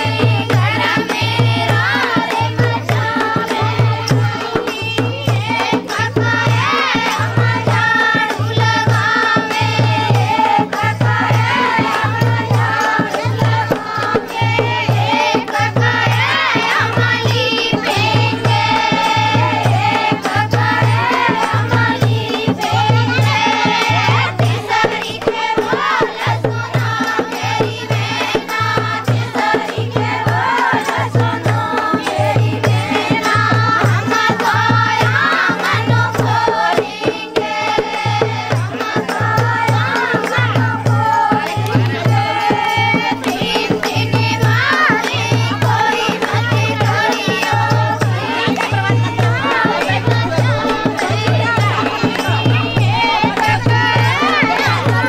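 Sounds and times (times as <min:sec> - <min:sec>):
person singing folk song: 0:00.0 - 0:27.1, 0:28.0 - 0:55.0
light percussion: 0:00.0 - 0:55.0
steady drum beat: 0:00.0 - 0:55.0.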